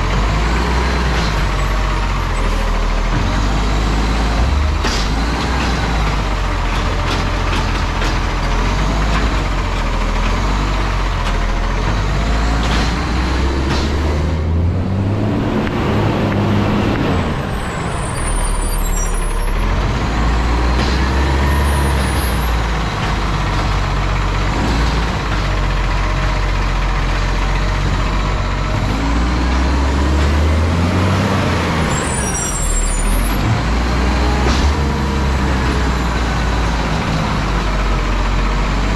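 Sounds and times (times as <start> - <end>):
truck diesel engine revving: 0.0 - 38.9.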